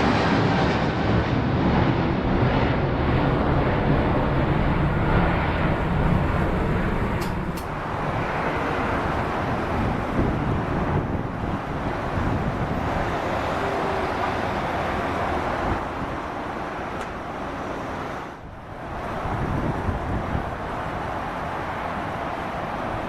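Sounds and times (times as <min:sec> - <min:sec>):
jet engine roar: 0:00.0 - 0:23.0
wind on microphone: 0:00.0 - 0:23.0.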